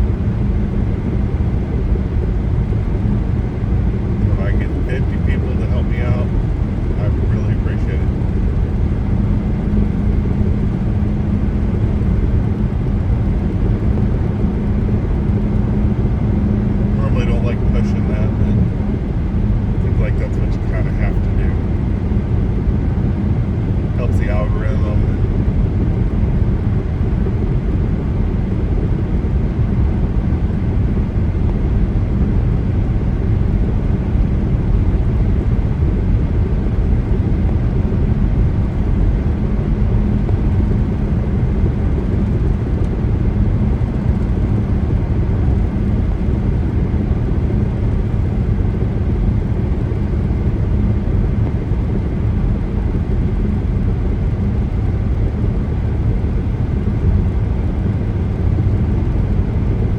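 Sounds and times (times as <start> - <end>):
car driving on highway: 0.0 - 59.9
faint steady hum: 0.0 - 59.9.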